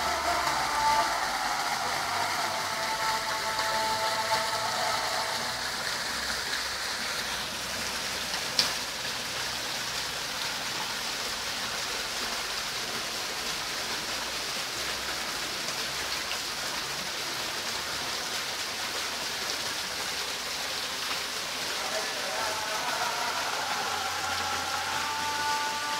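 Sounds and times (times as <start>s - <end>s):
water splashing down rock wall: 0.0s - 25.9s.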